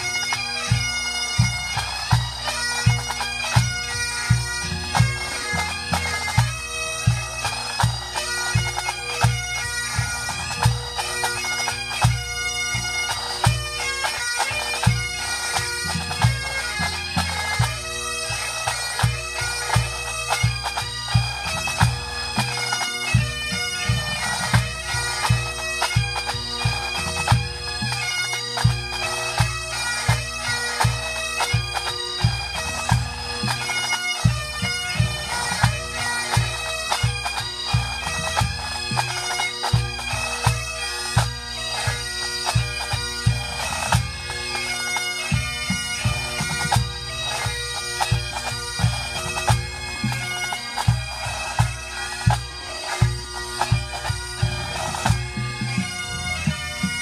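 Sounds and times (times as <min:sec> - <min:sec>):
bagpipes playing: 0:00.0 - 0:57.0.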